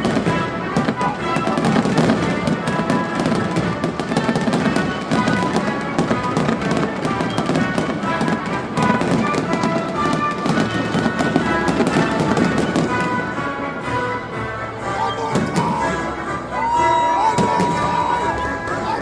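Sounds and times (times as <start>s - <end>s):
fireworks crackling and banging: 0.0s - 14.3s, 14.9s - 16.0s, 16.9s - 19.0s
music playing: 0.0s - 19.0s.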